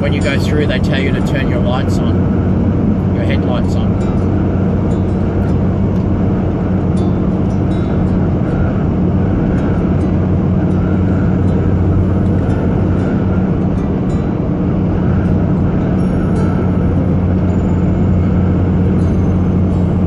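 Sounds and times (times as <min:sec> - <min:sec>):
truck engine running: 0:00.0 - 0:20.0
tyre and road noise: 0:00.0 - 0:20.0.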